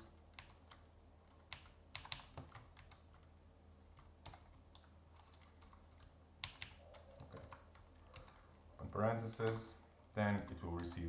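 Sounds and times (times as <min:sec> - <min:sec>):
faint keyboard typing: 0:00.0 - 0:11.0.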